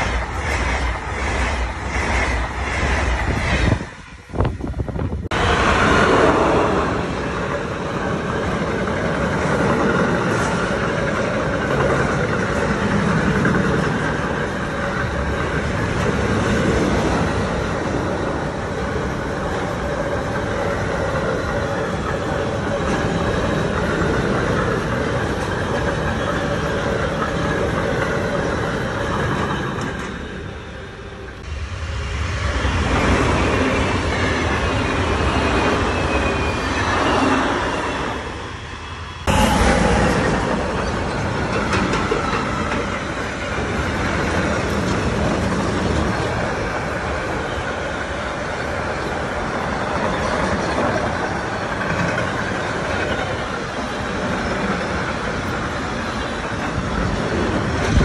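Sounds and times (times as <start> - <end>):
freight train wheels rumbling: 0.0 - 58.0
high-speed train passing: 0.0 - 58.0.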